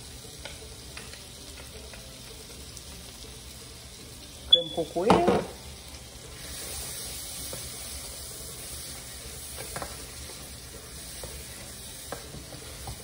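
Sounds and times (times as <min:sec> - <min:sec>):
beans sizzling in a pot: 0:00.0 - 0:13.0.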